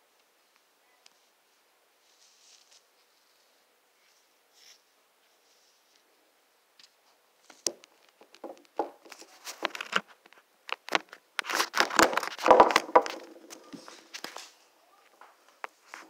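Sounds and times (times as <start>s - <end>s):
rustling: 0.2s - 16.0s.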